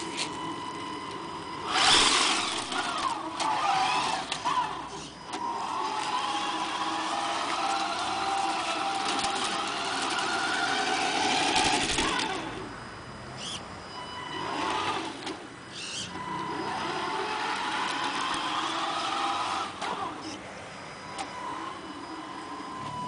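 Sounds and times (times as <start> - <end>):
electric motor and gearbox whining: 0.0 - 23.0.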